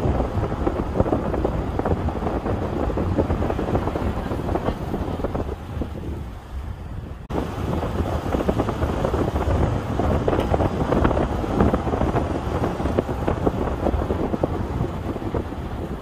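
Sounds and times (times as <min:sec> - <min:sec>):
car and tyre rumble: 0:00.0 - 0:16.0
wind buffeting microphone: 0:00.0 - 0:16.0.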